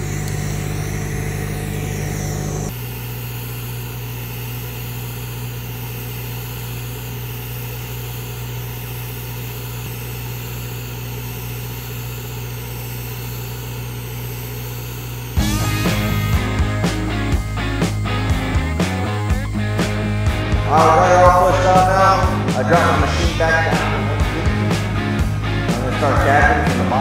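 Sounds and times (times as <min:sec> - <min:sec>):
welding arc hiss: 0:00.0 - 0:27.0
welding machine hum: 0:00.0 - 0:27.0.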